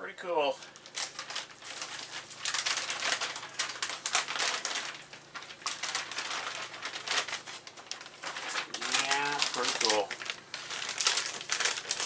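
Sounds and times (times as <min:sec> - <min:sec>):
packaging crinkling and rustling: 0:00.5 - 0:12.0.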